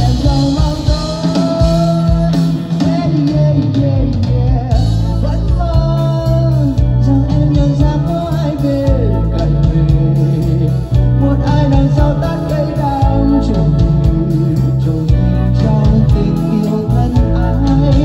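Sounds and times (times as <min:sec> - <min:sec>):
slow pop ballad: 0:00.0 - 0:18.0.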